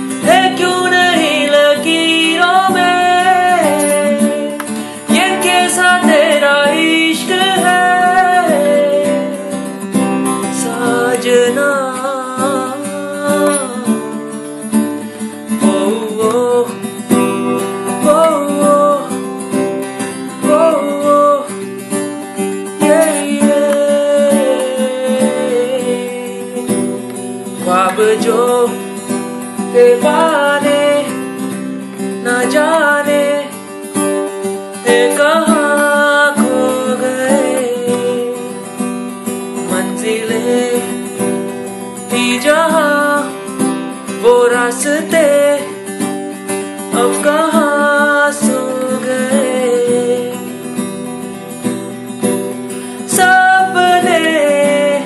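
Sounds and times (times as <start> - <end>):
acoustic guitar instrumental: 0.0 - 55.0.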